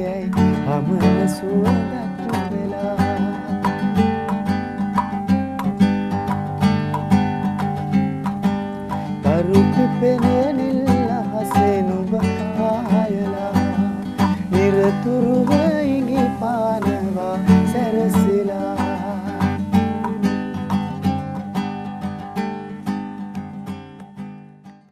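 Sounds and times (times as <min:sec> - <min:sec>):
acoustic guitar strumming: 0:00.0 - 0:24.9.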